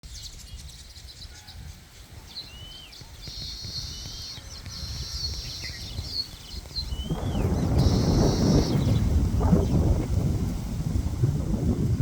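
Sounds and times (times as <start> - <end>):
birds chirping: 0.0 - 10.0
low wind rumble: 0.0 - 12.0.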